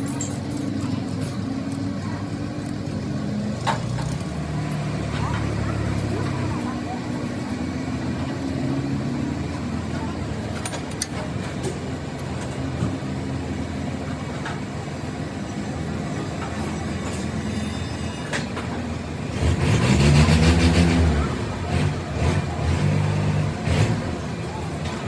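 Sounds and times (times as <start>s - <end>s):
vehicle engine running: 0.0s - 17.3s, 18.7s - 25.0s.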